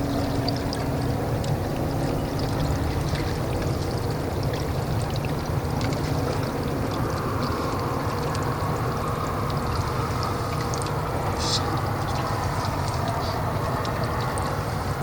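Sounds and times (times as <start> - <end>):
faint steady hum: 0.0 - 15.0
water sloshing at shore: 0.0 - 15.0.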